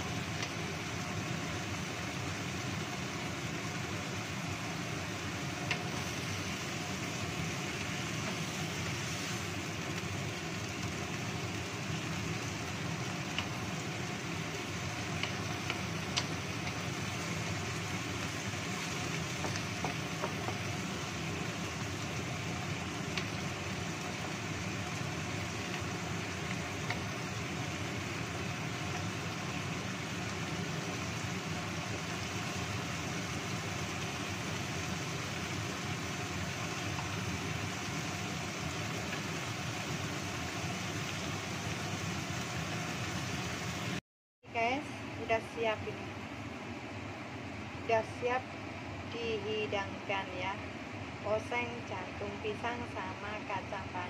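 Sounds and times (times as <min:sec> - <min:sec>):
vegetables stir-frying in a wok: 0:00.0 - 0:54.0.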